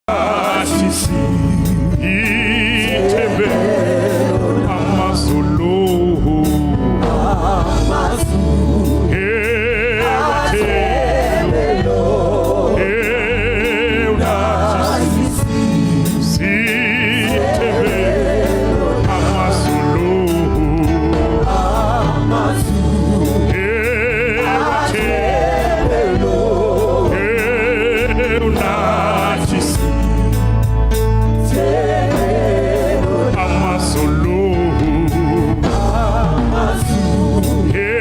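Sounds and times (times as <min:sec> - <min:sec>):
voices singing with vibrato: 0:00.0 - 0:30.6, 0:31.4 - 0:38.0
steady bass accompaniment: 0:00.0 - 0:38.0.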